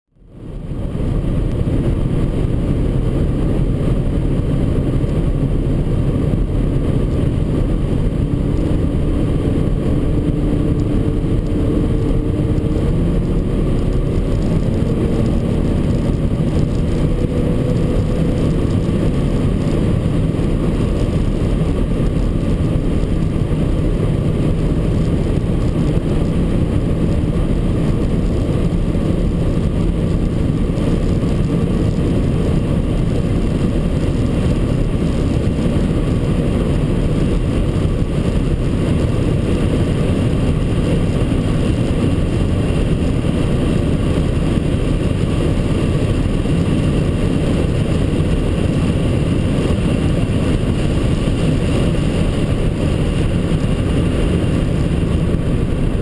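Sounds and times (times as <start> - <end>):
wind and road noise: 0.1 - 56.0
car engine accelerating: 0.2 - 56.0.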